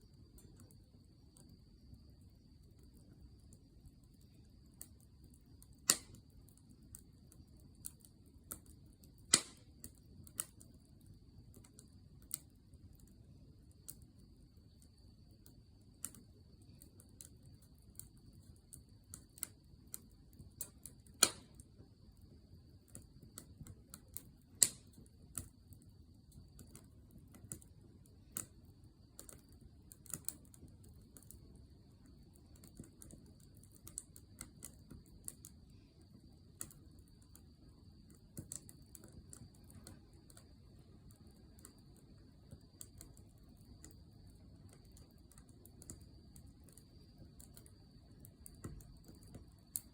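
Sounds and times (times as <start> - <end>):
campfire crackling: 0.0 - 49.9.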